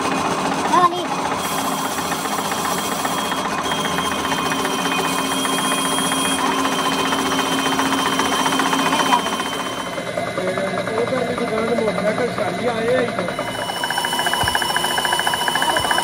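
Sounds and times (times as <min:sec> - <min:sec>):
lathe tool cutting rattle: 0:00.0 - 0:16.0
metal lathe humming: 0:00.0 - 0:16.0.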